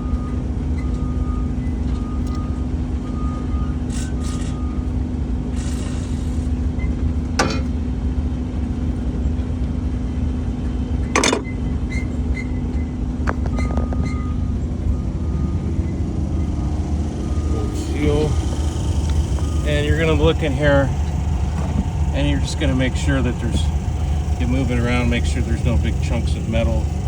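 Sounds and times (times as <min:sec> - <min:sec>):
machinery rumbling and humming: 0:00.0 - 0:27.0.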